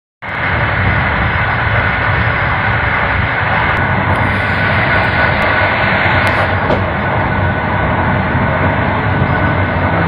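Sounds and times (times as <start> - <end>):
train wheels rumbling on rails: 0.2 - 10.0
faint steady whine: 0.3 - 10.0.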